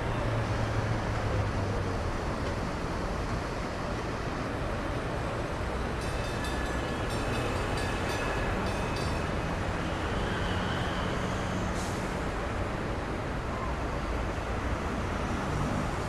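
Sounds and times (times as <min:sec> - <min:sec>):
vehicle rumble and hiss: 0:00.0 - 0:16.0.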